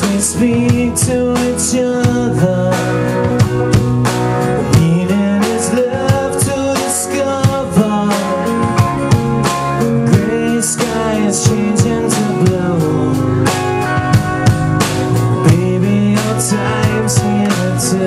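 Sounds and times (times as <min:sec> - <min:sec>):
man singing: 0:00.0 - 0:03.7, 0:04.6 - 0:14.1, 0:15.3 - 0:18.0
drum kit beat: 0:00.0 - 0:18.0
electric and acoustic guitars: 0:00.0 - 0:18.0.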